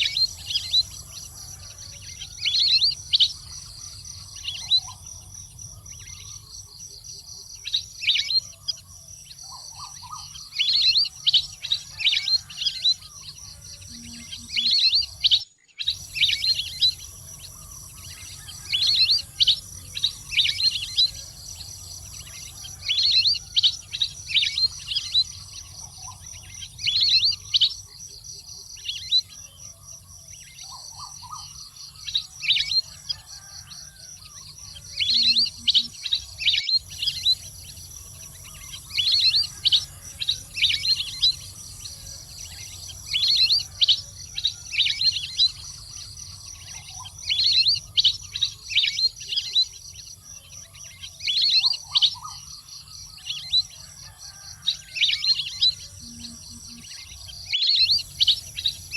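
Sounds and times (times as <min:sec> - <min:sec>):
high insect drone: 0:00.0 - 0:58.9.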